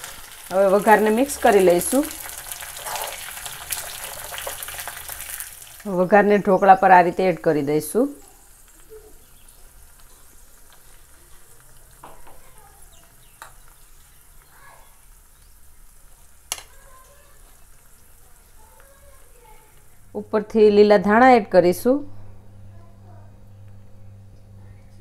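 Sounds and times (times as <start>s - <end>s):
faint oil sizzle: 0.0s - 20.5s.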